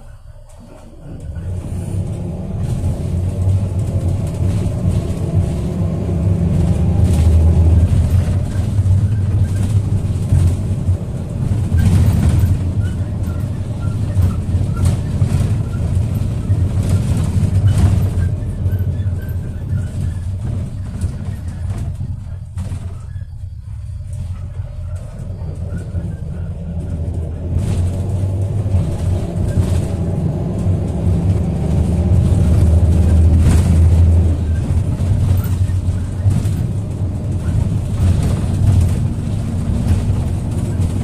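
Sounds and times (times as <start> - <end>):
bus engine running: 0.0 - 41.0
road noise: 0.0 - 41.0.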